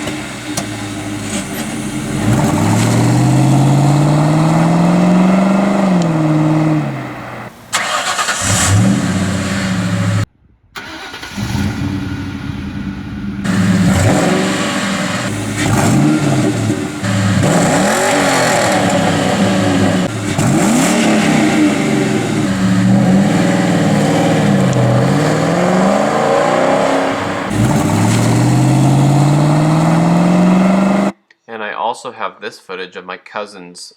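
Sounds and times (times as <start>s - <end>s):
car accelerating: 0.0s - 31.2s
car engine revving: 0.0s - 31.2s.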